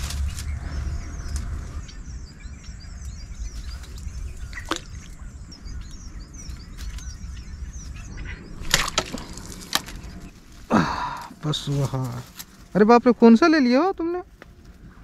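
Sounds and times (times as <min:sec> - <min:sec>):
low rumble: 0:00.0 - 0:13.3
small birds chirping: 0:00.0 - 0:15.0.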